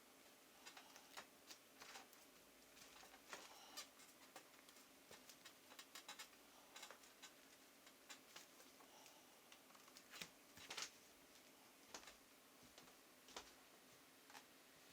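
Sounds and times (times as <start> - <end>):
faint low hum: 0.0 - 14.9.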